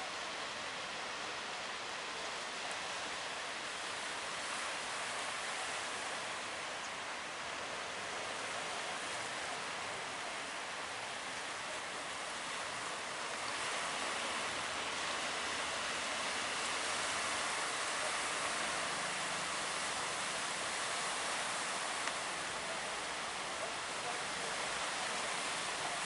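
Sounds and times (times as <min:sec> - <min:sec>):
surf and breaking water: 0:00.0 - 0:26.0.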